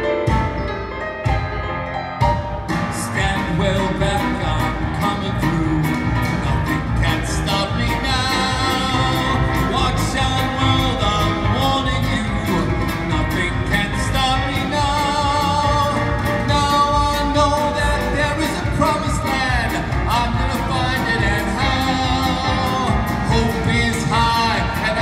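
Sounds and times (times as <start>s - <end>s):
band with guitars and piano: 0.0s - 25.0s
man singing long notes: 3.0s - 25.0s.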